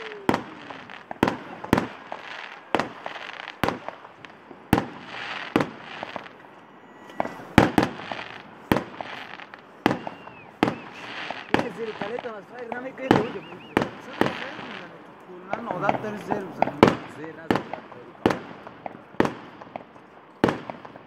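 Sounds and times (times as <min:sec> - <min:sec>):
fireworks bangs: 0:00.0 - 0:21.0
fireworks crackling hiss: 0:00.0 - 0:21.0.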